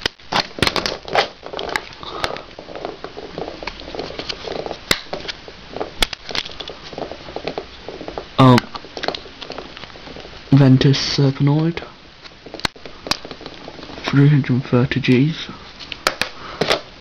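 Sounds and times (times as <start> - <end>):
rustling and crackling: 0.0 - 17.0.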